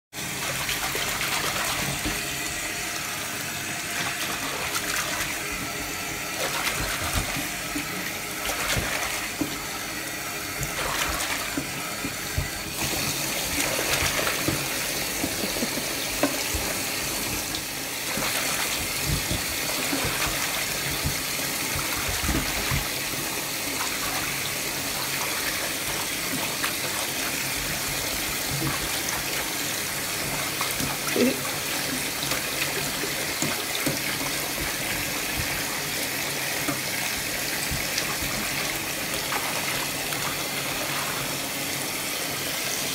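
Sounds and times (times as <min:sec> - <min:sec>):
puppy paws splashing water: 0:00.2 - 0:42.0
tap water running into sink: 0:00.2 - 0:42.9.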